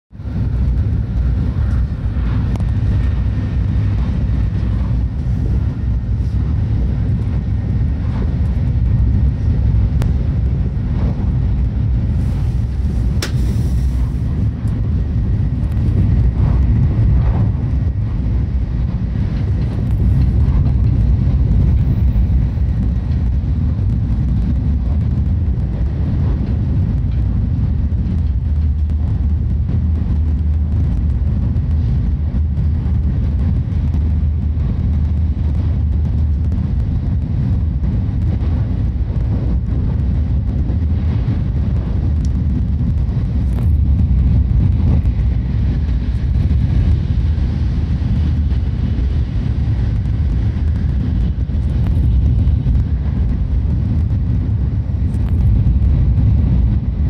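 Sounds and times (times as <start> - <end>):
train cabin low rumble: 0.1 - 57.0.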